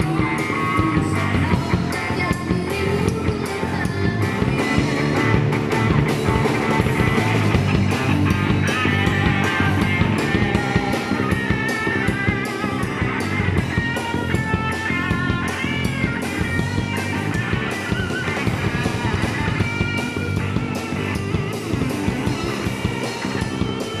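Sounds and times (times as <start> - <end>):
drum kit beat: 0.0 - 24.0
electric guitar lead with bent notes: 0.0 - 24.0.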